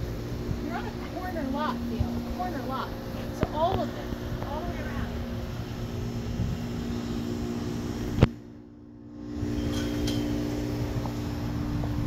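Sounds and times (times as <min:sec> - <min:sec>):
low rumble: 0:00.0 - 0:12.0
steady low hum: 0:00.0 - 0:12.0.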